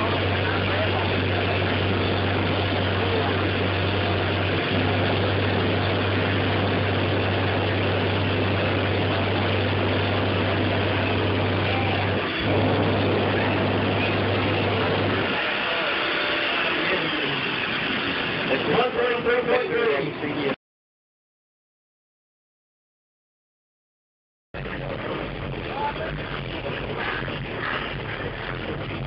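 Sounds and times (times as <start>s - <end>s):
subwoofer deep bass tone: 0.0s - 19.2s, 24.6s - 29.0s.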